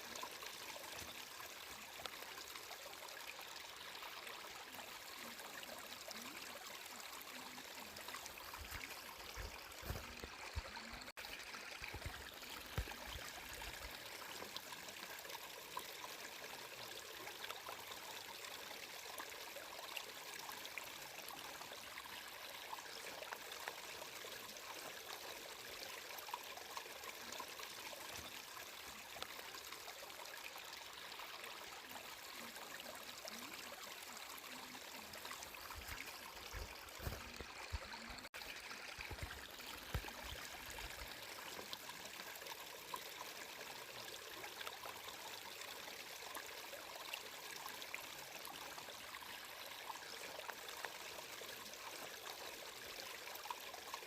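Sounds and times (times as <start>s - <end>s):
water trickling and babbling: 0.0s - 54.0s.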